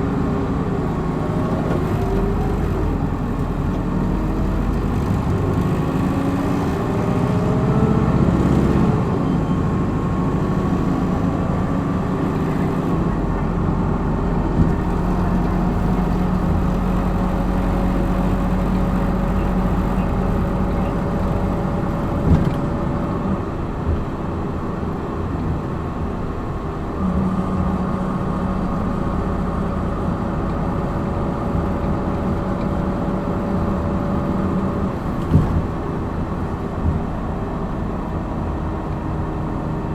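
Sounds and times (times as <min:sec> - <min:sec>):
bus engine accelerating: 0:00.0 - 0:39.9.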